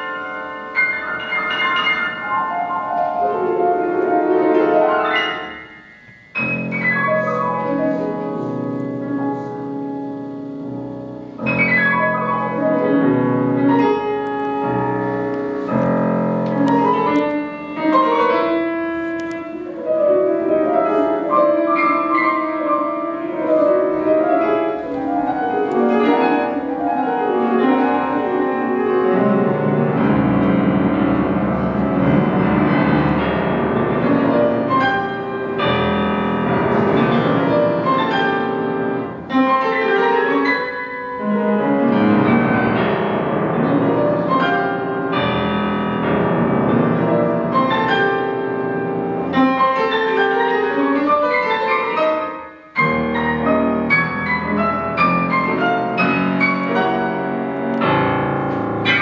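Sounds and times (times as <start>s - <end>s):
solo classical piano: 0.0s - 59.0s.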